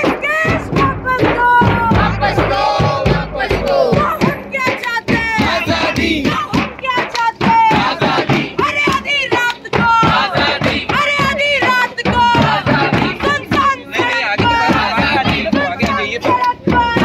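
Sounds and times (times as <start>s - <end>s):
drum beating: 0.0s - 17.0s
crowd chanting slogans: 1.0s - 17.0s.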